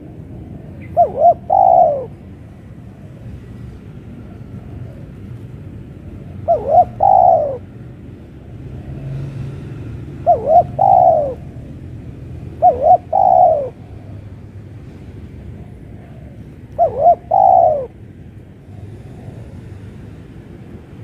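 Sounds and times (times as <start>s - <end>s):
dove cooing: 0.0s - 7.8s, 10.1s - 14.6s, 15.5s - 20.2s.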